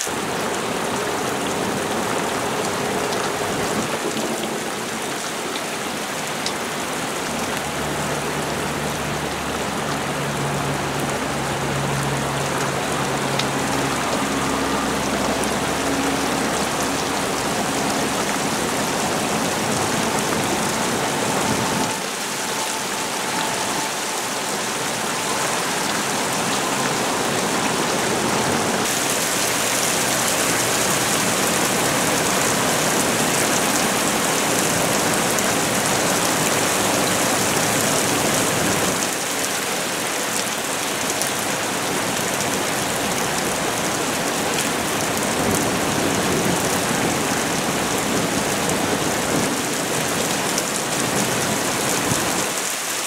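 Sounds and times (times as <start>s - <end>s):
heavy rain on pavement and cars: 0.0s - 53.0s.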